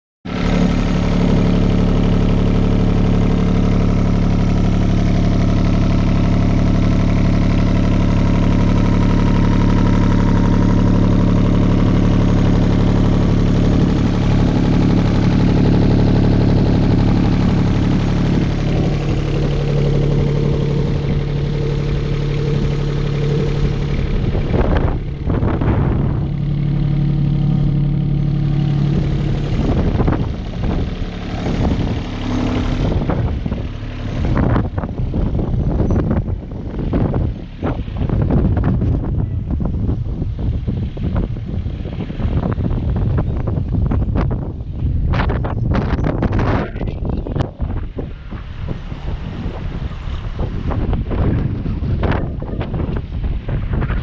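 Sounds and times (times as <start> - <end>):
mini excavator diesel engine: 0.3 - 54.0.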